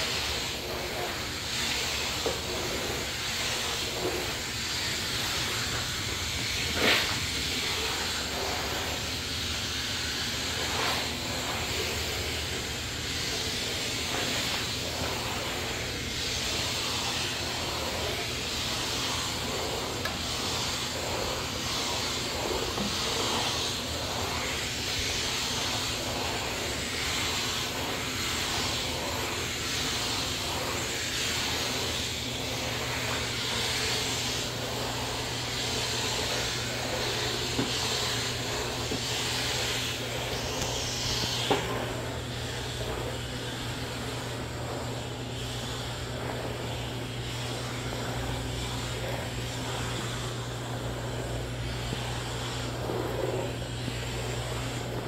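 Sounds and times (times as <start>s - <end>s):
steam cleaner hissing: 0.0s - 55.0s.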